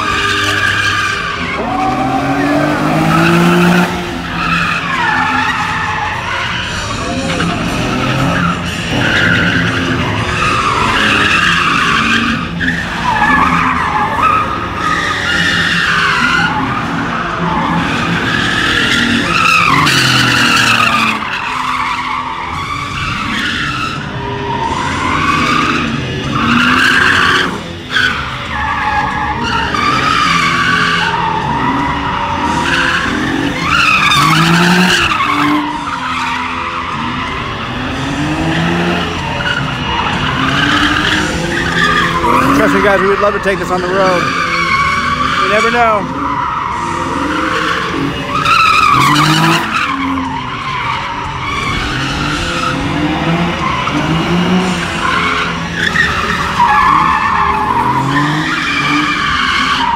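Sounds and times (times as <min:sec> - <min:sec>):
car engine revving: 0:00.0 - 0:59.9
tyres squealing: 0:00.0 - 0:59.9.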